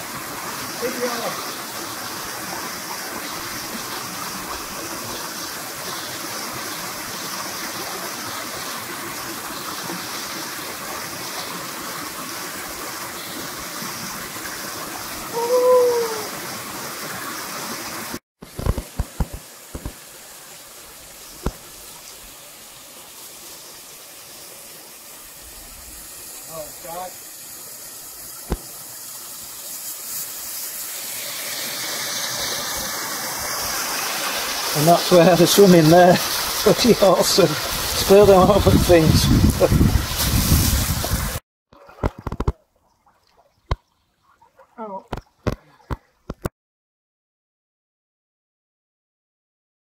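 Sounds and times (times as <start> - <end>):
waterfall pouring into pool: 0.0 - 42.6.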